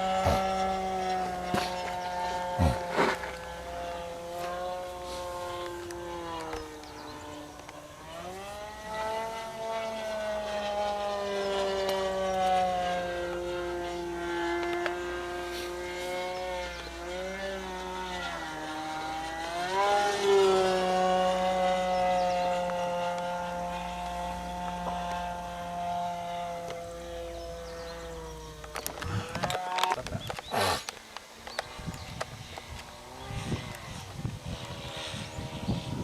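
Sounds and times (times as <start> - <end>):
model airplane engine: 0.0 - 36.0.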